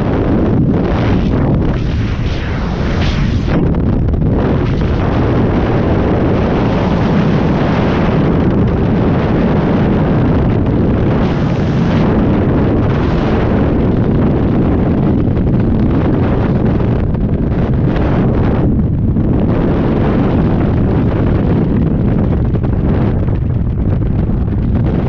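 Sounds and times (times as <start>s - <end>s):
freefall wind buffeting microphone: 0.0s - 25.0s.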